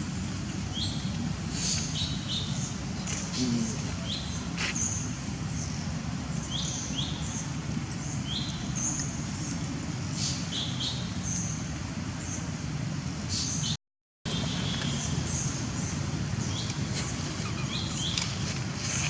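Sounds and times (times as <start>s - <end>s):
small birds chirping: 0.7s - 12.6s, 13.3s - 18.5s.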